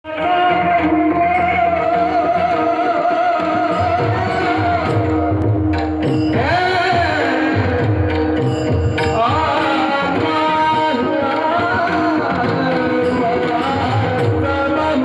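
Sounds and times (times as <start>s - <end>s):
hand drum beats: 0.2s - 15.0s.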